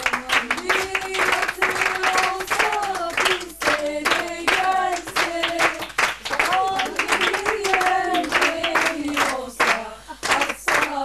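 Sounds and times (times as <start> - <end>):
rhythmic hand clapping: 0.0 - 11.0
women singing together: 0.0 - 11.0.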